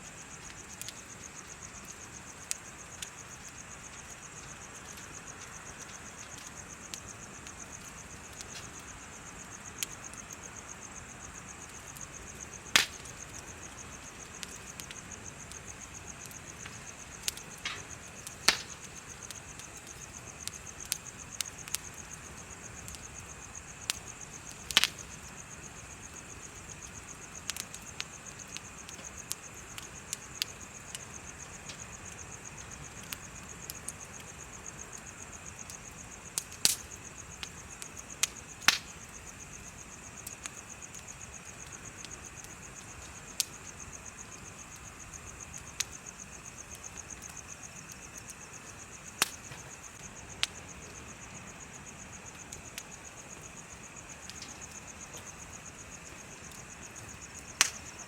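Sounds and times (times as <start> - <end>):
bonfire crackling and popping: 0.0 - 58.0
insects chirping: 0.0 - 58.0.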